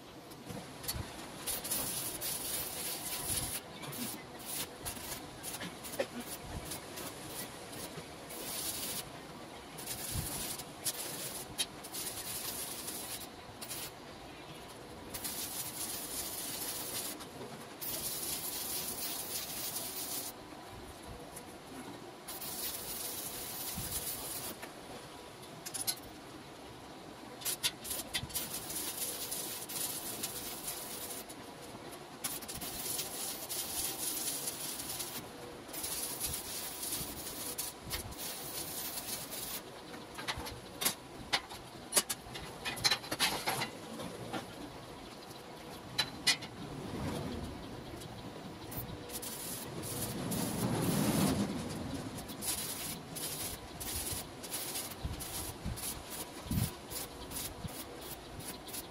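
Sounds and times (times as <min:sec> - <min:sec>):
arc welding crackling and hissing: 0:00.0 - 0:58.9.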